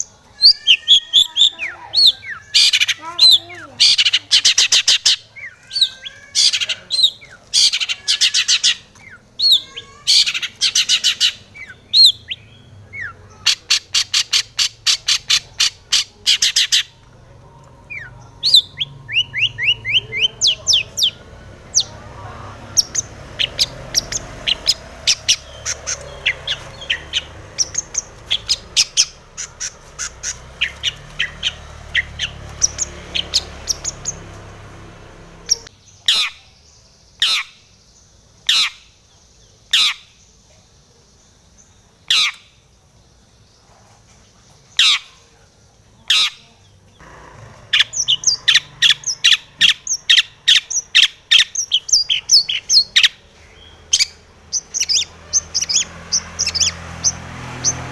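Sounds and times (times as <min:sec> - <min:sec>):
bird singing harsh chattering notes: 0:00.0 - 0:40.4, 0:41.3 - 0:45.3, 0:46.0 - 0:57.9.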